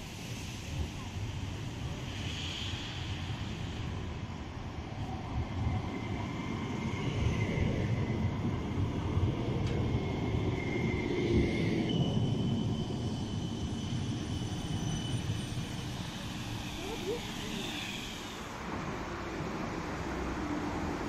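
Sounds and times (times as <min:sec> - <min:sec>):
tram rumbling on track: 0:00.0 - 0:21.0.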